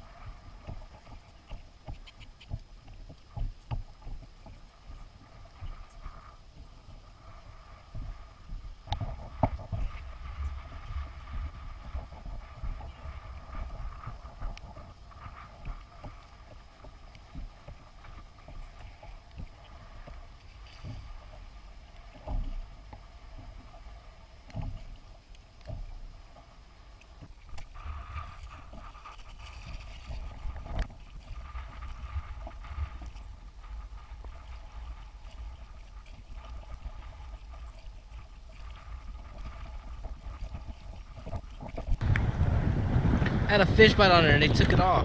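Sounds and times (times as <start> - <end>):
water slapping hull: 0.0 - 45.0
wind rumble on microphone: 0.0 - 45.0.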